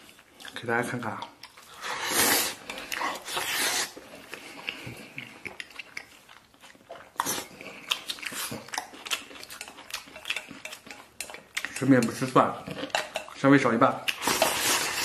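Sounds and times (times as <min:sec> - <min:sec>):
person chewing noodles: 0:00.0 - 0:13.4, 0:14.0 - 0:15.0.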